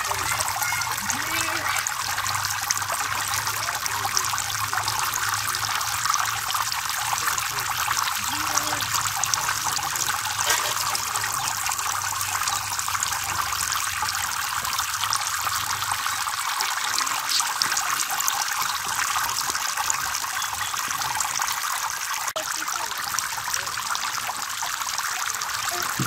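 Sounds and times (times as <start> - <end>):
fountain water splashing into tub: 0.0 - 26.0.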